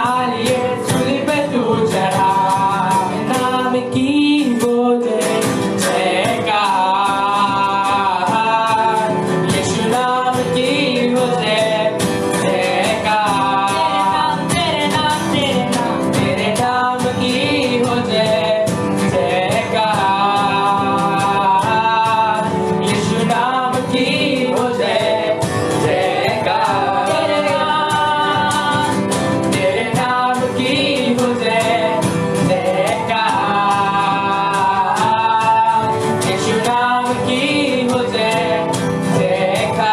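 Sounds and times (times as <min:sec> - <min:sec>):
band playing worship music: 0:00.0 - 0:39.9
person singing: 0:00.0 - 0:39.9.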